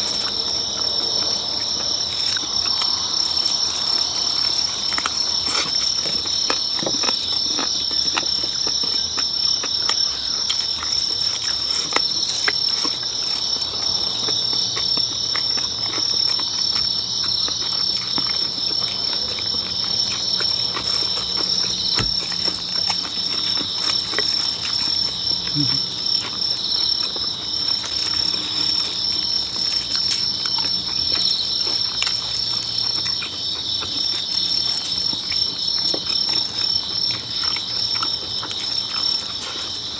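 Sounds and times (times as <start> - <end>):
night insects trilling: 0.0 - 39.9
people chewing and clicking: 0.0 - 39.9.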